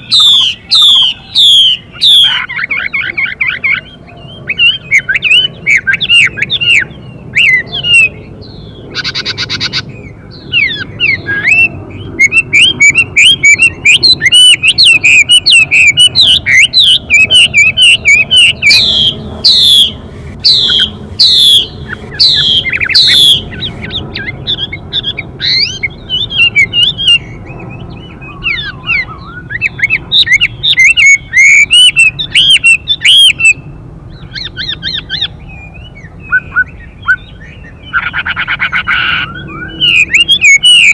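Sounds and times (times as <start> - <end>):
bird song of chirps and whistles: 0.0 - 40.9
harsh buzzy bird call: 0.0 - 40.9.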